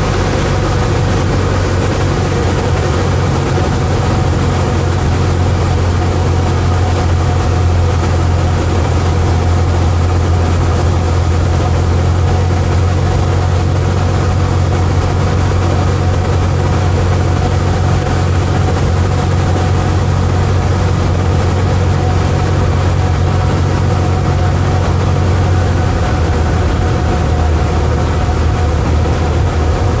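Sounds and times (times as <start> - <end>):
light aircraft engine droning: 0.0 - 30.0.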